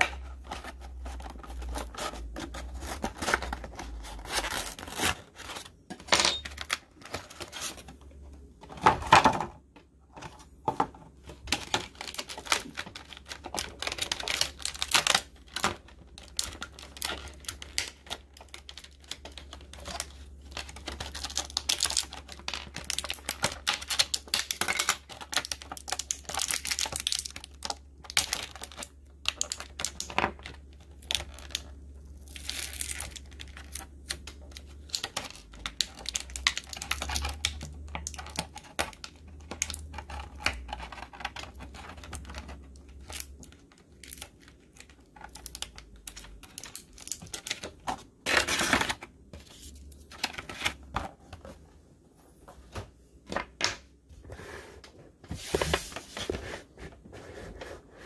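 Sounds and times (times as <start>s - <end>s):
plastic packaging crackling: 0.0s - 8.3s, 11.4s - 51.0s.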